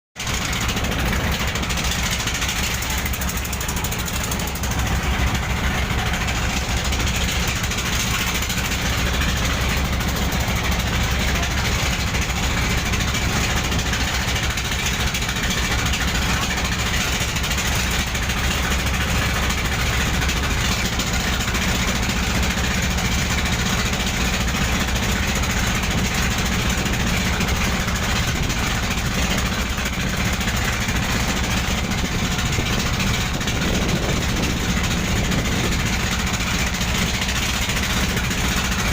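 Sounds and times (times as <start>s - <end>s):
boat engine humming: 0.2s - 38.9s.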